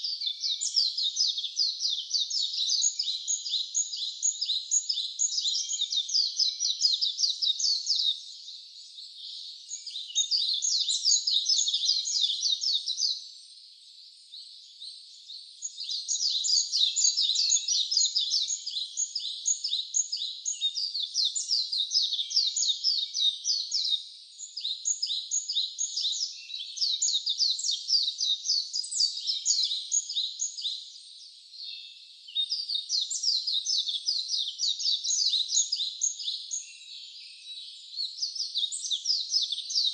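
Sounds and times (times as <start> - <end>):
birds chirping in trills: 0.0 - 39.9.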